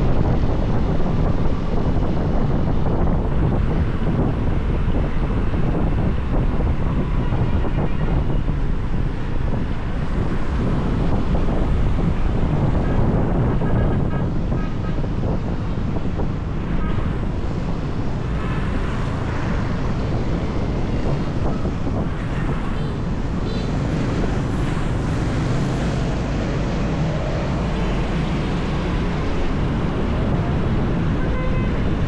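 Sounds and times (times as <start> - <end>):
road traffic: 0.0 - 32.0
wind rushing over microphone: 0.0 - 32.0.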